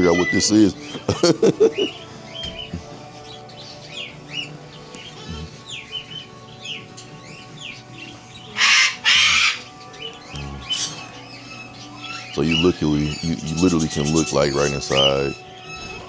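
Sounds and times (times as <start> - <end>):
harsh bird squawks: 0.0 - 0.9, 3.8 - 16.0
birds chirping: 0.0 - 16.0.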